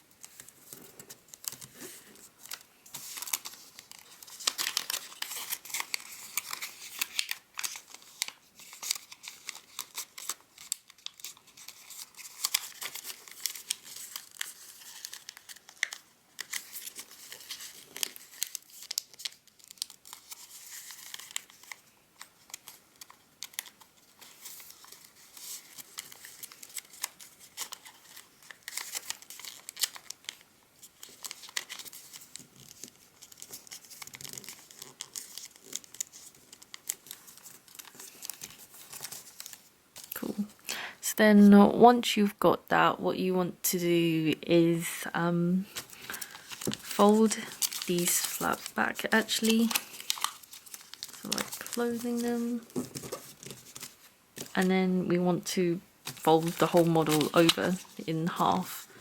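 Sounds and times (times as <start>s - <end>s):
paper crackling and rustling: 0.0s - 40.5s, 45.6s - 54.7s, 55.5s - 59.0s.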